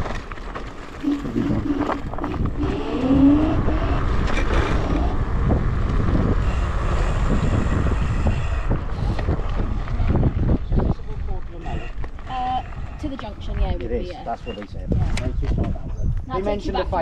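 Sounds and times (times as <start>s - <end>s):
scooter road noise: 0.0s - 13.8s
wind buffeting microphone: 1.0s - 17.0s.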